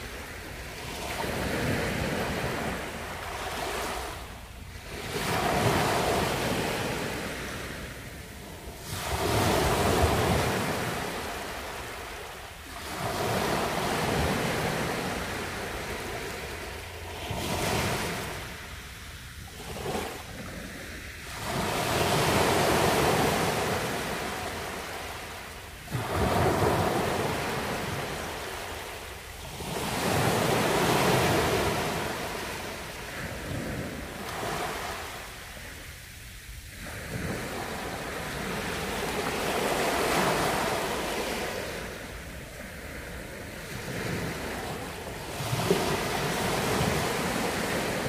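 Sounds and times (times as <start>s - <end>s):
waves breaking on beach: 0.0s - 48.0s.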